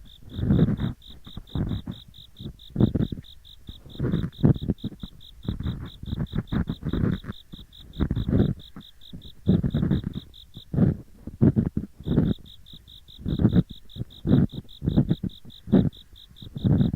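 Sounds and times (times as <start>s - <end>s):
ear pick scraping: 0.0s - 12.6s, 13.2s - 16.9s
insects chirping: 0.0s - 16.9s.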